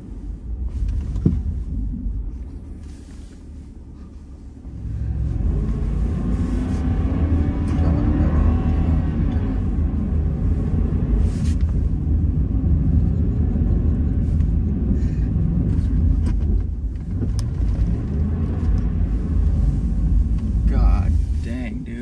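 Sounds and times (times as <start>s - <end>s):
pickup truck rumbling: 0.0s - 22.0s.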